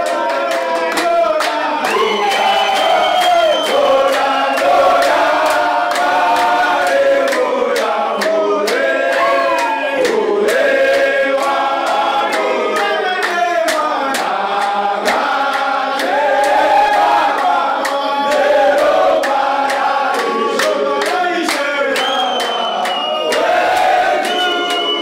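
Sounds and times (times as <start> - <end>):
men singing in chorus: 0.0 - 25.0
rhythmic hand-clapping: 0.0 - 25.0.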